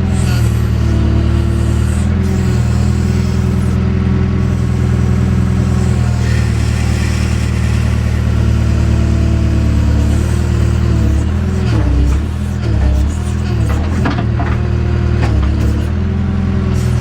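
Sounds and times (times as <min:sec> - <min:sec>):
backhoe diesel engine digging: 0:00.0 - 0:17.0.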